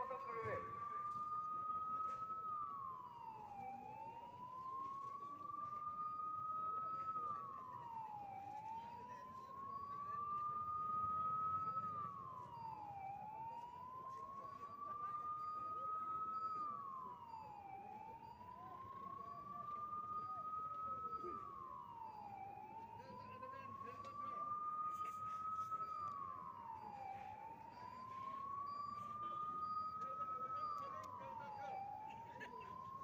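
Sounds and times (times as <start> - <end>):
siren wailing: 0.0 - 33.0.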